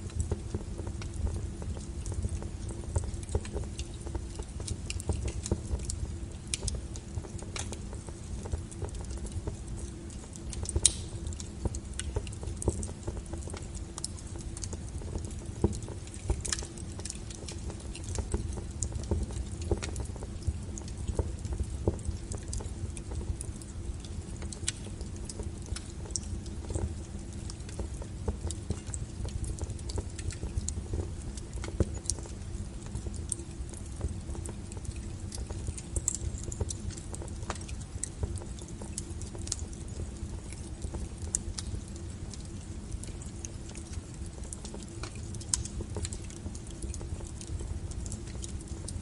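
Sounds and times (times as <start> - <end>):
wood fire crackling and popping: 0.0 - 49.0.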